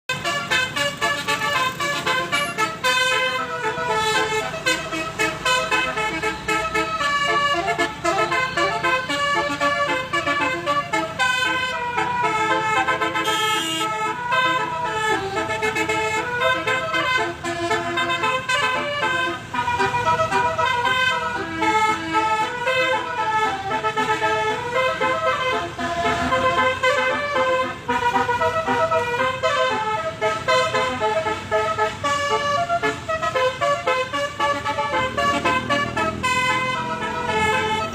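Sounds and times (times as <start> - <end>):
musical vehicle horn playing a tune: 0.1 - 37.9.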